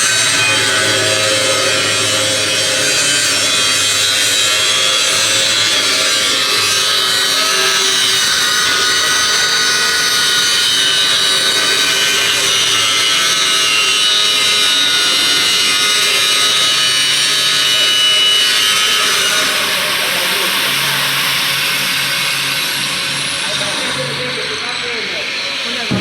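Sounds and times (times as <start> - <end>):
power tool grinding metal: 0.0 - 26.0.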